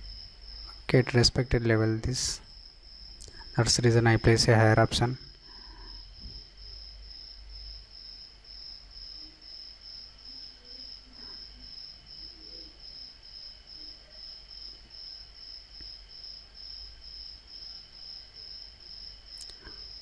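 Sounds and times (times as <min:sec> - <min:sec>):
faint low hum: 0:00.0 - 0:20.0
insect chirping: 0:00.0 - 0:20.0.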